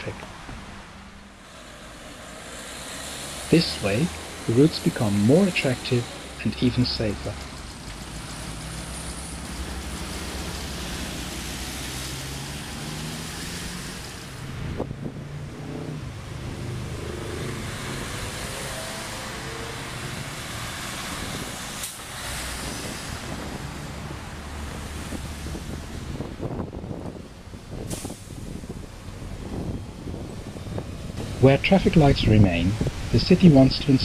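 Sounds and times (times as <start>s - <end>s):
road traffic passing: 0.0s - 34.0s.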